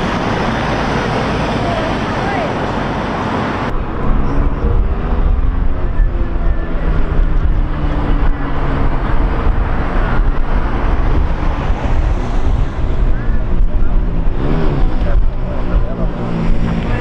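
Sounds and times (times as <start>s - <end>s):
engine running: 0.0s - 17.0s
wind rumble on microphone: 0.0s - 17.0s.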